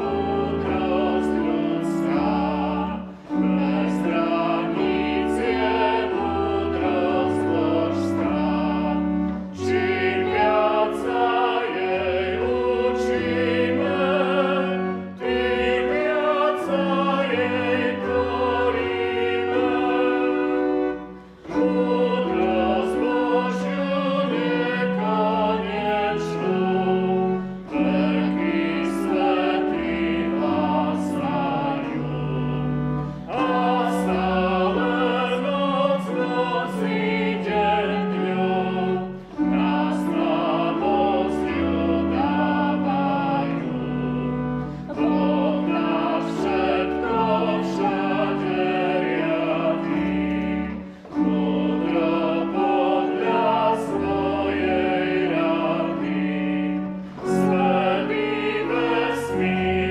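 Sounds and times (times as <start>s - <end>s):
organ chords: 0.0s - 59.9s.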